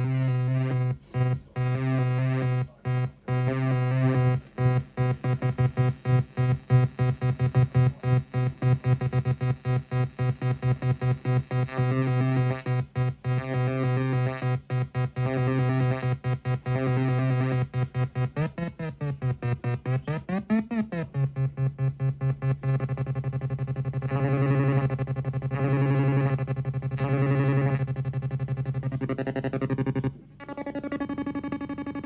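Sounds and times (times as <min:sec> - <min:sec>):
synthesizer buzzing in stuttering pulses: 0:00.0 - 0:32.0.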